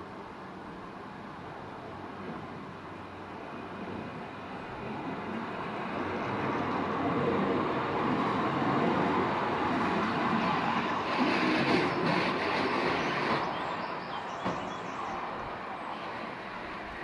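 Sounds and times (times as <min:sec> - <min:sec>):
funicular car rumbling on rails: 0:01.9 - 0:17.0.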